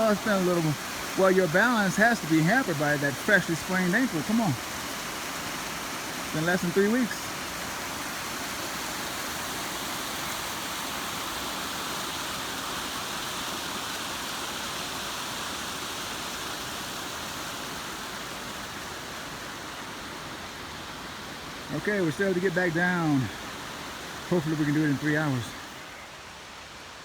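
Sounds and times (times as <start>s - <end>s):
rushing mountain water: 0.0s - 27.0s.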